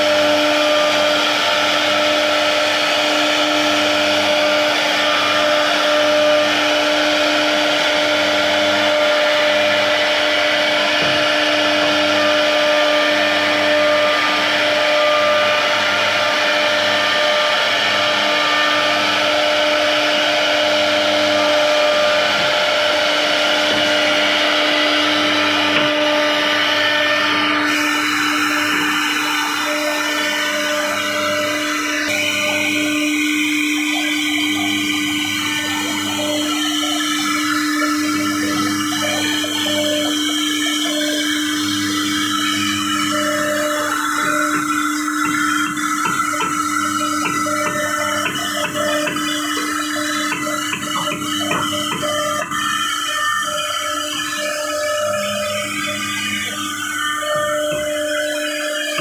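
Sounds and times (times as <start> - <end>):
cnc router spindle whine: 0.0 - 59.0.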